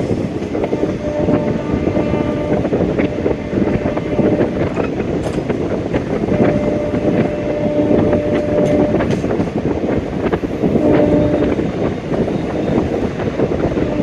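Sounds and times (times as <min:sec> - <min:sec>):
rail clicks: 0:00.0 - 0:14.0
train wheels rumbling on track: 0:00.0 - 0:14.0.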